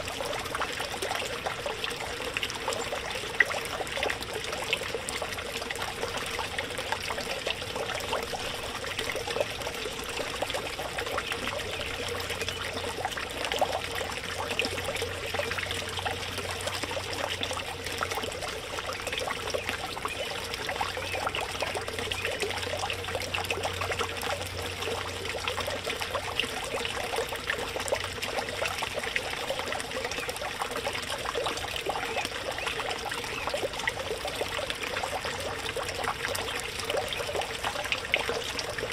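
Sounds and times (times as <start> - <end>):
fountain splashing and trickling: 0.0 - 38.9.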